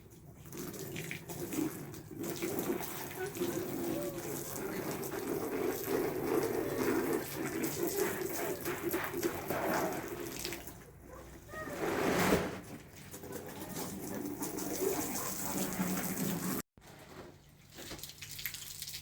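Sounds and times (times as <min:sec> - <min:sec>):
water running and splashing: 0:00.0 - 0:11.0, 0:12.9 - 0:16.6, 0:17.7 - 0:19.0.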